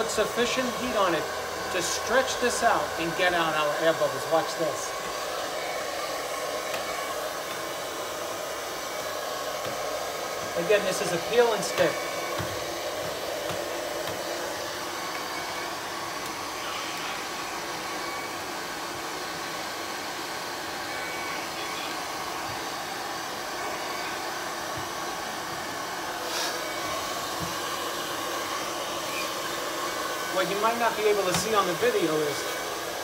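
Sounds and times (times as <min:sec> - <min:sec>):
hair dryer blowing: 0:00.0 - 0:33.0.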